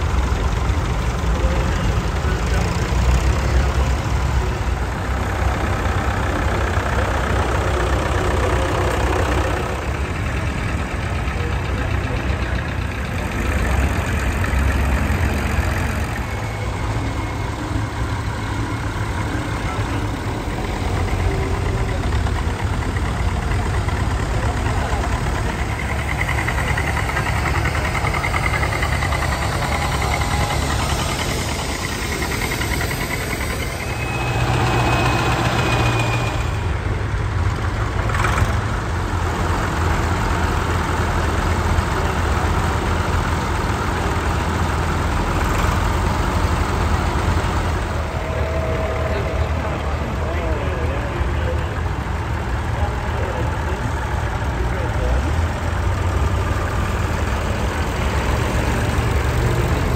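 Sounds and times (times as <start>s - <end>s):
tractor engines driving past: 0.0s - 59.9s.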